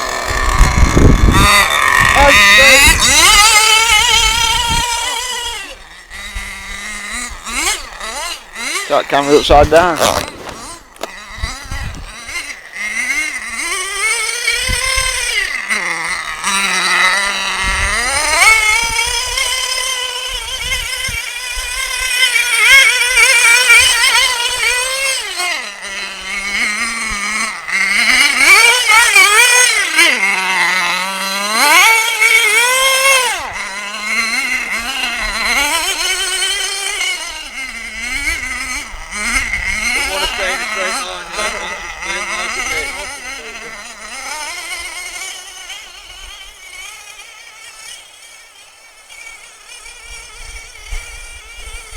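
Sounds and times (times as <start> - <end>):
small two-stroke engine revving: 0.0 - 51.9.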